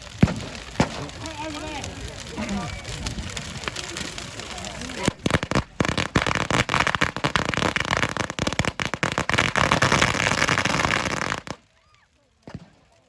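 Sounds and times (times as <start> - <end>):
rapid crackling and popping: 0.0 - 13.0.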